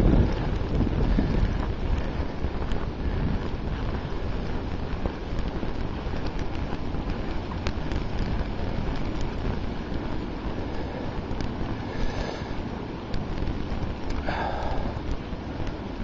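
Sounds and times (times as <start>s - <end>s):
wind buffeting microphone: 0.0s - 16.0s
faint ticks: 0.3s - 15.8s.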